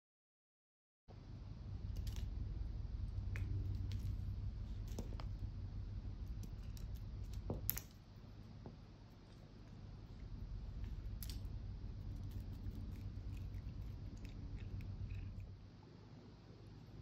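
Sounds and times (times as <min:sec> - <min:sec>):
low hum: 0:01.1 - 0:17.0.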